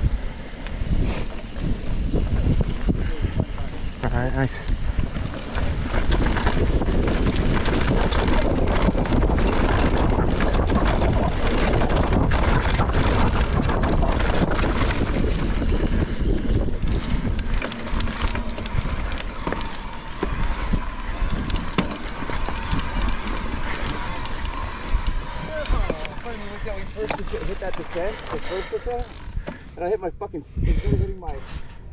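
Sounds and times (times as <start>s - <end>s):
tyres on loose dirt: 0.0s - 29.9s
bike rattling over bumps: 0.0s - 30.1s
wind buffeting microphone: 0.0s - 31.9s.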